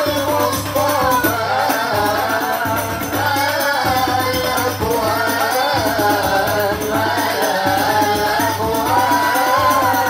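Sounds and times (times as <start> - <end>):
frame drums beating: 0.0 - 10.0
men singing devotional song: 0.0 - 10.0.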